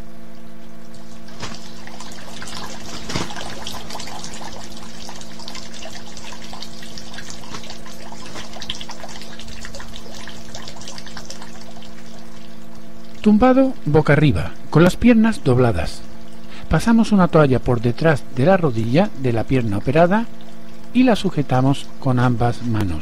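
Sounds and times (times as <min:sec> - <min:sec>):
low steady hum: 0:00.0 - 0:23.0
water trickling and bubbling: 0:00.3 - 0:14.8, 0:15.6 - 0:17.0, 0:18.7 - 0:22.6.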